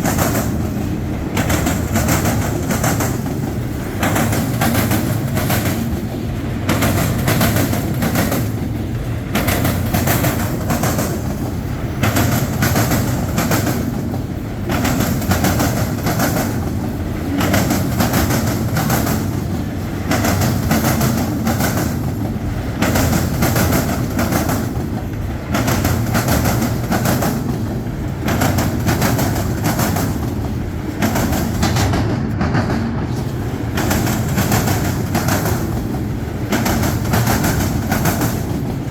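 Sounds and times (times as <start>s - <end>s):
train rumble: 0.0s - 38.9s
train wheels clicking over rail joints: 0.0s - 38.9s.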